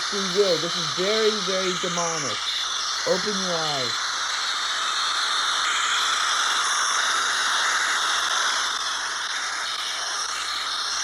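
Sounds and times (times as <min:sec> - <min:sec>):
loud high-pitched hiss: 0:00.0 - 0:11.0.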